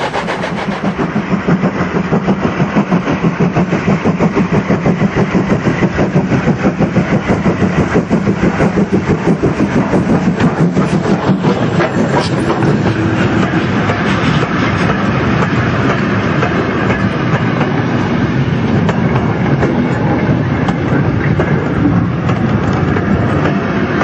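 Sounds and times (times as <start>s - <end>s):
model train wheels rumbling: 0.0s - 24.0s
wheels clicking over rail joints: 0.0s - 24.0s.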